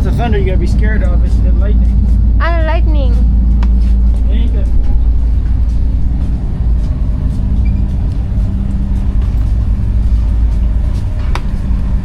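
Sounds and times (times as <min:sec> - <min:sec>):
ferry engine droning: 0:00.0 - 0:12.0.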